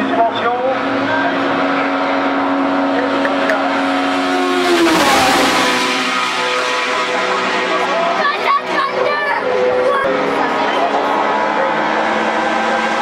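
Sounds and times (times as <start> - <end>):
racing car passing at high revs: 0.0 - 13.0.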